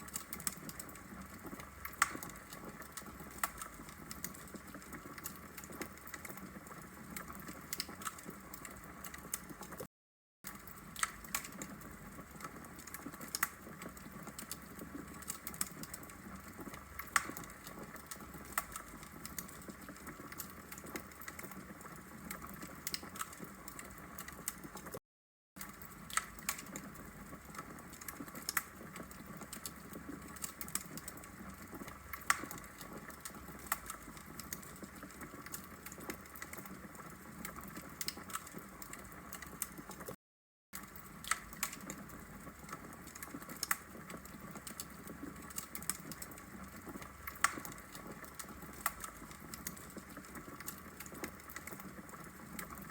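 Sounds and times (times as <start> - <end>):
wood fire crackling: 0.0 - 9.9, 10.5 - 25.0, 25.6 - 40.2, 40.8 - 52.9.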